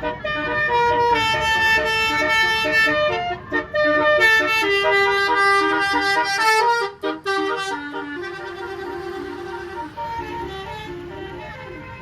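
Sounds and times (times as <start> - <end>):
multi-trumpet bus air horn tune: 0.0 - 12.0.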